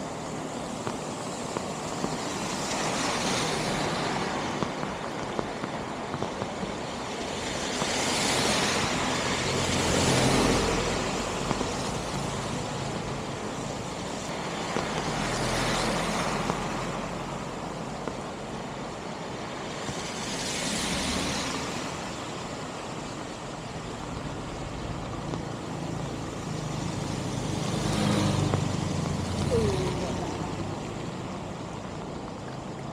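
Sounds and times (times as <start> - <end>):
road traffic passing: 0.0 - 32.9.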